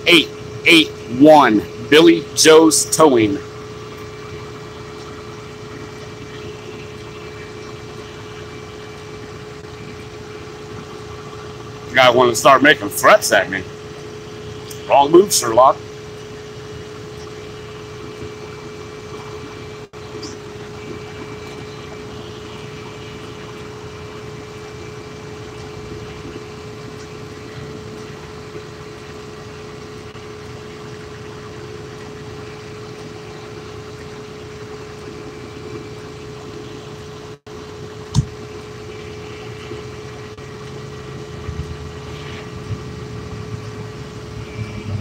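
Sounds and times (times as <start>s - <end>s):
truck engine idling: 0.0s - 45.0s.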